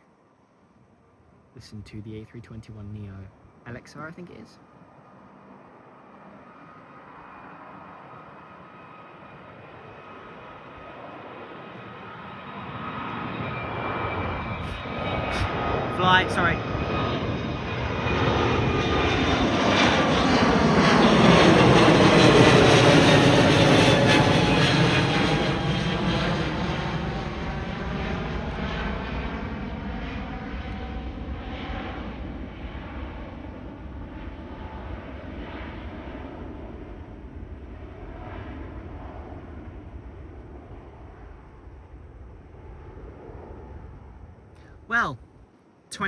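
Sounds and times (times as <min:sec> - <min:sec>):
jet engines of departing aircraft: 0:00.0 - 0:46.0.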